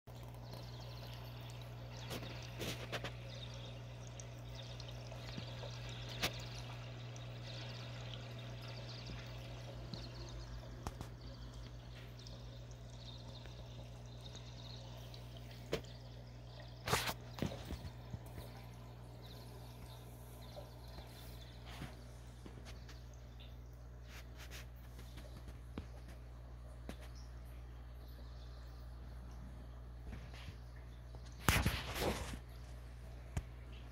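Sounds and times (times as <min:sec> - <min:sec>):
aquarium filter humming: 0:00.1 - 0:33.9
water trickling: 0:00.1 - 0:33.9.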